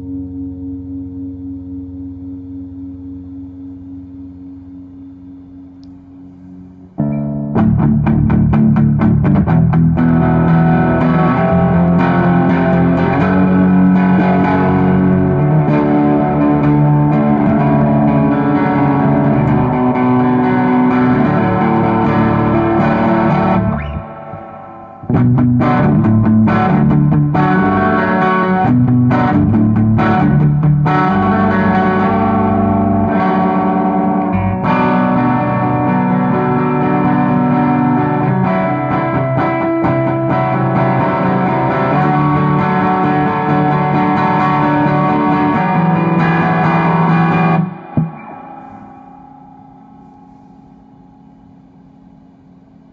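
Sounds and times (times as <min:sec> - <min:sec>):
overdriven electric guitar: 0:07.0 - 0:52.9.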